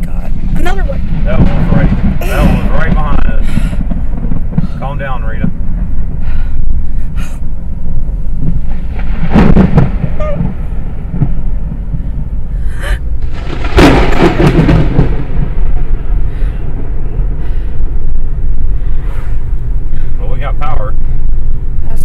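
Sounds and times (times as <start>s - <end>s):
thunder cracks: 0.0s - 20.2s
car road rumble: 0.0s - 22.0s.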